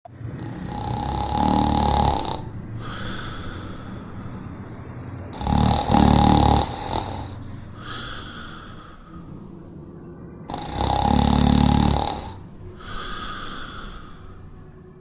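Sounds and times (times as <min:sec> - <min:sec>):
dog snoring: 0:00.3 - 0:04.3, 0:05.4 - 0:09.4, 0:10.5 - 0:14.5.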